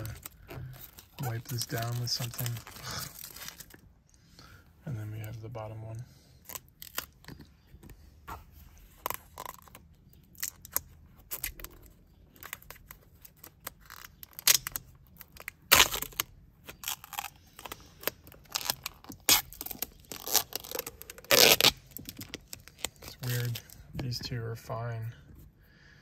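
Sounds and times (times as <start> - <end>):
plastic film peeling and crinkling: 0.0 - 3.9, 6.4 - 7.9, 8.5 - 24.0.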